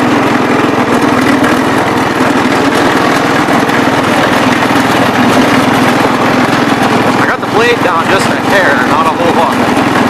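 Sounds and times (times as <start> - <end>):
walk-behind tractor engine running: 0.0 - 10.0.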